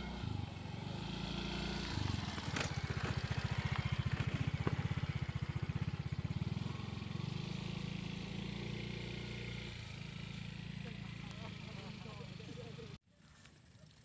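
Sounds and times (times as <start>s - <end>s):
small engine chugging past: 0.0s - 14.0s.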